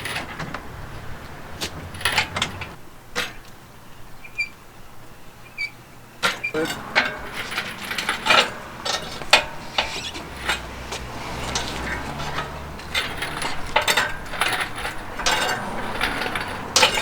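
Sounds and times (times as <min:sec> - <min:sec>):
metallic clicks and clanks: 0:00.0 - 0:03.6, 0:06.2 - 0:17.0.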